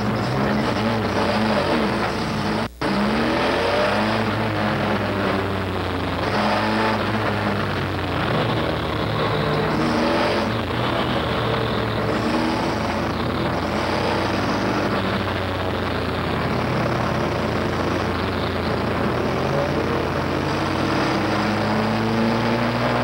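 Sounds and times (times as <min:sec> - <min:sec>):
truck engine running hard: 0:00.0 - 0:23.0.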